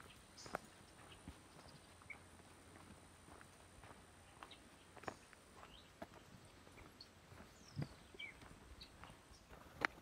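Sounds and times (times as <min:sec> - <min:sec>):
faint footsteps: 0:00.0 - 0:10.0.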